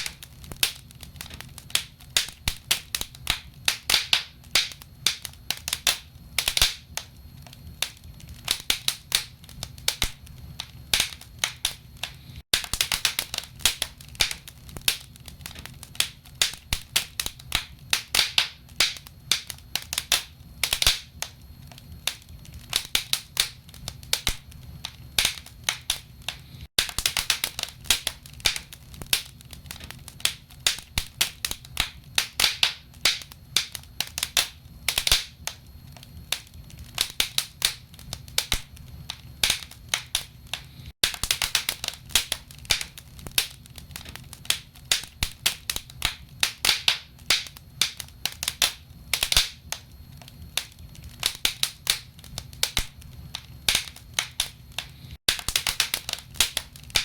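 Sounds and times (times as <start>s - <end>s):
logs crackling and popping: 0.0s - 57.0s
low steady fire rumble: 0.0s - 57.0s.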